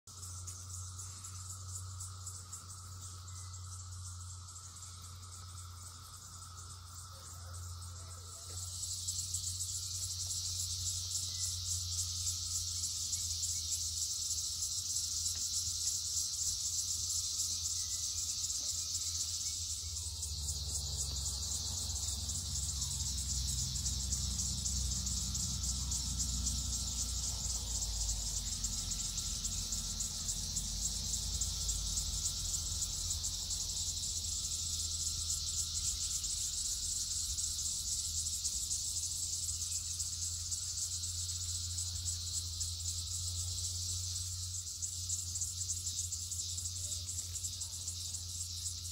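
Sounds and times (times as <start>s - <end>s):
cicadas shrilling: 0.0s - 48.9s.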